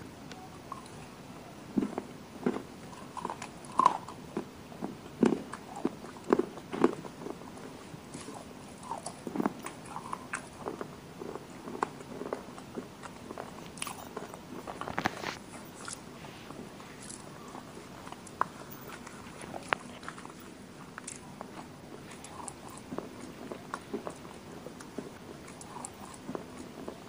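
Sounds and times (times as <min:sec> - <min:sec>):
crisp crunches of chewing: 0:00.3 - 0:27.0.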